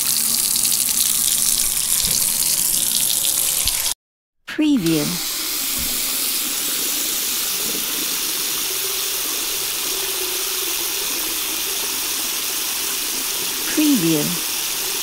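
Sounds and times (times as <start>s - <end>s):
water running: 0.0s - 4.0s, 4.8s - 15.0s.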